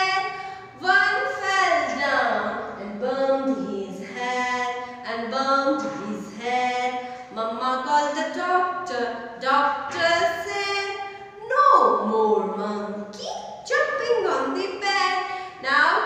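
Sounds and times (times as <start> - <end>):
woman singing unaccompanied: 0.0 - 13.1.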